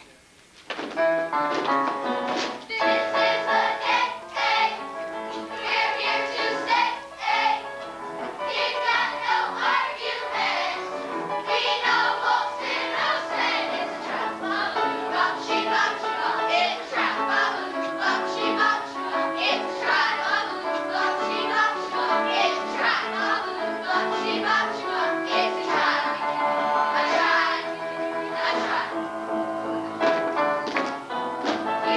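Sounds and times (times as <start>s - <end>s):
backing music: 0.7s - 31.9s
children singing together: 2.7s - 29.1s, 31.6s - 31.9s.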